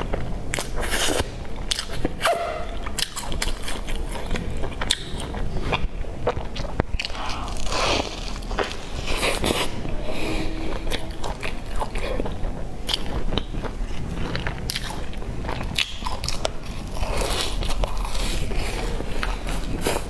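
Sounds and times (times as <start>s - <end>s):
chewing with crunches: 0.0s - 9.9s, 10.8s - 20.0s.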